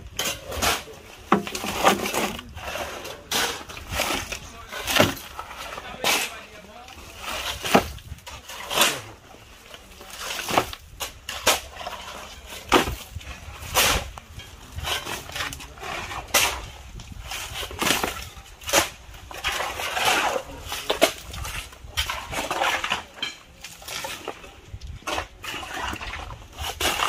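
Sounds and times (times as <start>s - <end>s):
shovels scraping wet concrete: 0.0s - 27.0s.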